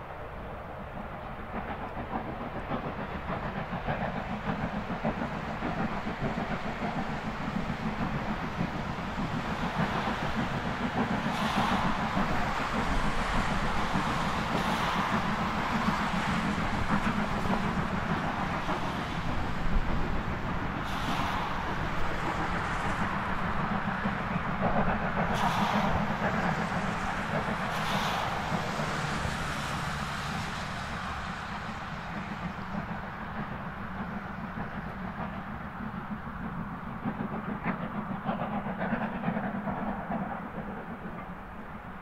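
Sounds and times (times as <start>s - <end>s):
distant train rumble: 0.0s - 42.0s.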